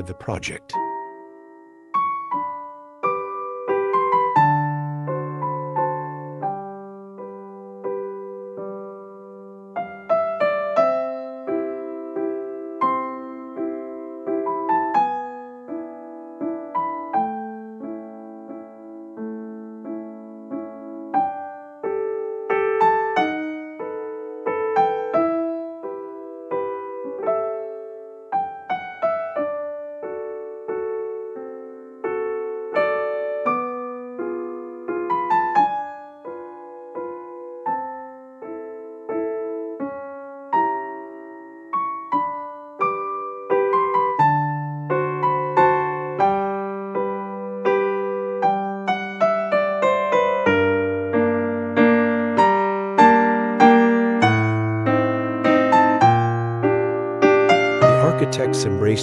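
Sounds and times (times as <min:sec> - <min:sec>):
solo piano playing chords: 0:00.0 - 0:59.0.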